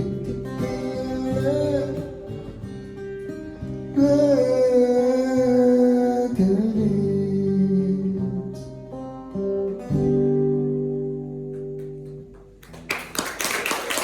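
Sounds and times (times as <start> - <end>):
acoustic guitar strummed chords: 0.0 - 12.8.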